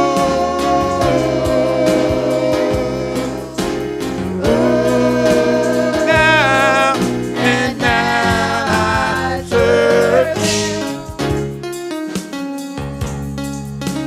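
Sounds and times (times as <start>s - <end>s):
choir and congregation singing: 0.0s - 11.7s
instrumental accompaniment: 0.0s - 14.0s.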